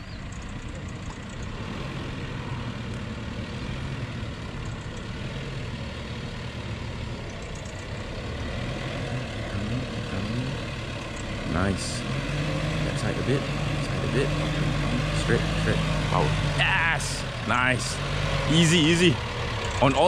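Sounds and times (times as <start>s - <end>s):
truck engine running low: 0.0s - 20.0s.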